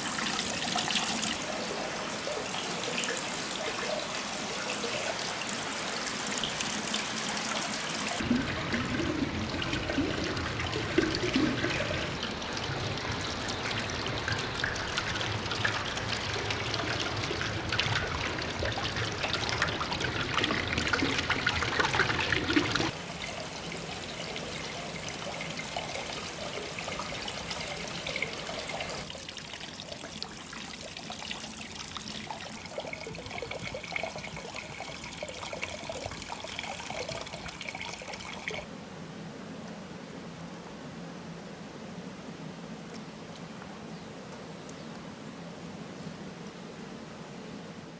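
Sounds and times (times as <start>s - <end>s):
water trickling down a channel: 0.0s - 38.7s.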